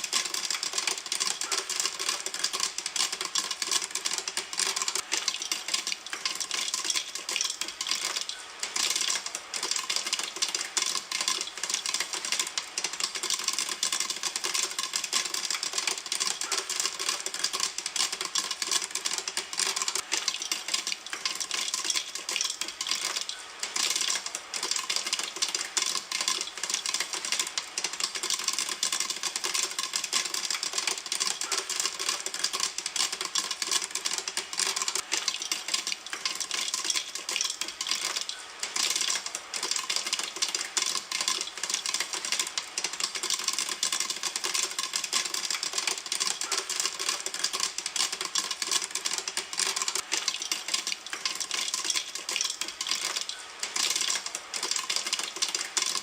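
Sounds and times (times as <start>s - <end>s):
popcorn popping in a pan: 0.0s - 56.0s.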